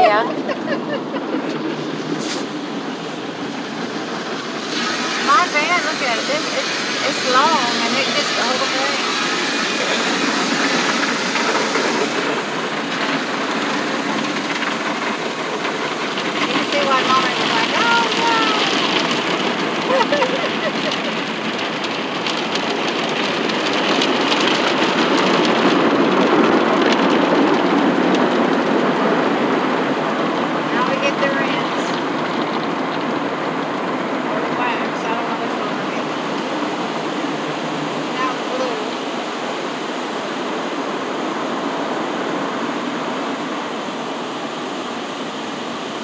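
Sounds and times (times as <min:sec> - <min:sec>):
water spraying onto a car: 0:01.2 - 0:46.0.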